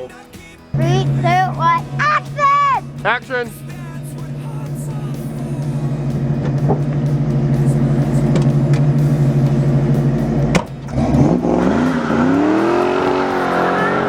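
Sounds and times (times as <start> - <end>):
vehicle engine running: 0.8 - 14.0.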